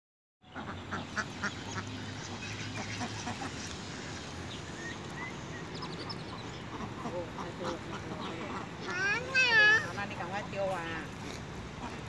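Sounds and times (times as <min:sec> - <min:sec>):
ducks quacking: 0:00.5 - 0:04.4, 0:05.2 - 0:10.3, 0:11.2 - 0:12.0.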